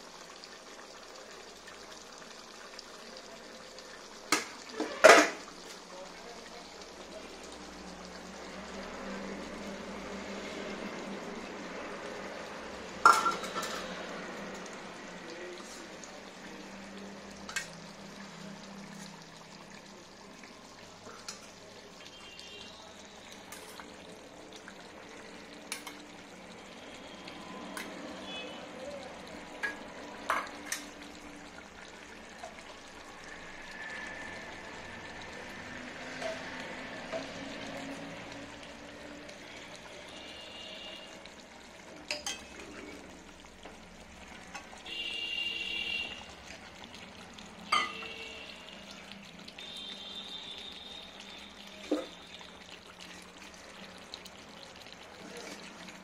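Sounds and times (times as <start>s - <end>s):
pot sizzling: 0.0s - 56.0s.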